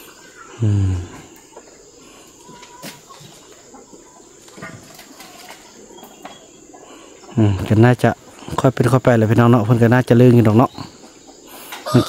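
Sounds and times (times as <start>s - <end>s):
chickens clucking: 0.0s - 12.0s
insect hum: 0.0s - 12.0s.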